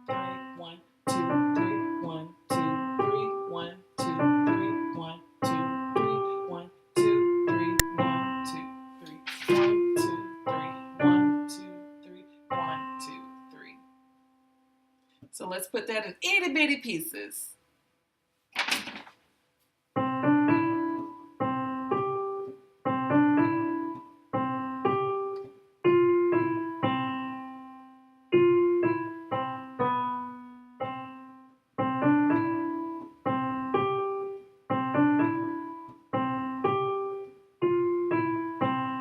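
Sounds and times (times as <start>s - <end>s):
piano playing simple pattern: 0.0s - 14.2s, 20.0s - 39.0s.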